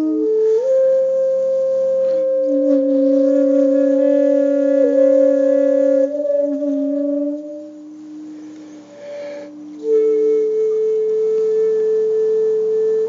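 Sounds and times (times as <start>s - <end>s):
ambient music with held notes: 0.0s - 13.0s.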